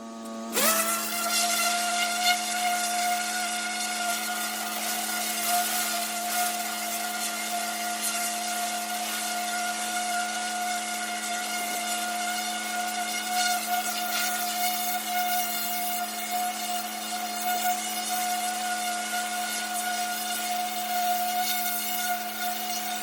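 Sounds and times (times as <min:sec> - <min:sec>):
pressure washer running: 0:00.0 - 0:23.0
water jet hissing on brick: 0:00.5 - 0:23.0.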